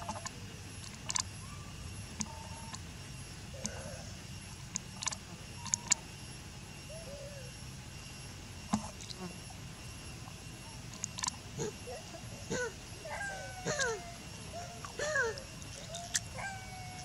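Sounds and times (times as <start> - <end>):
faint high steady tones: 0.0 - 17.0.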